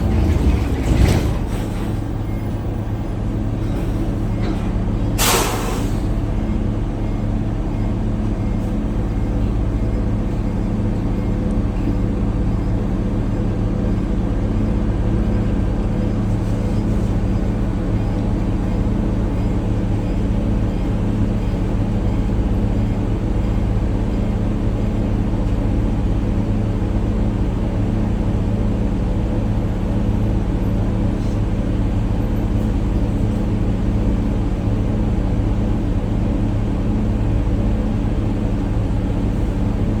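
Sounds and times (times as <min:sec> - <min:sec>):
bus engine droning: 0:00.0 - 0:40.0.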